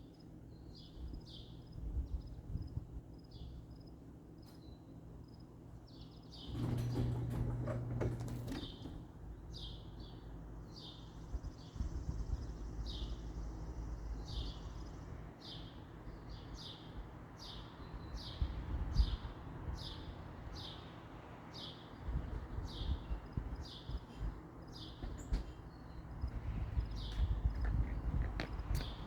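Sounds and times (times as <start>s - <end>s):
bird chirping: 0.1s - 6.7s, 8.4s - 20.9s, 21.6s - 29.0s.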